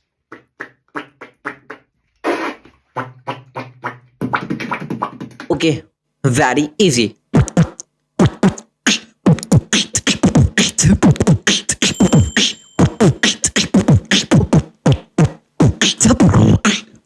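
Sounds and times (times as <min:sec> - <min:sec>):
beatboxing vocal strokes: 0:00.0 - 0:05.8, 0:07.3 - 0:17.0.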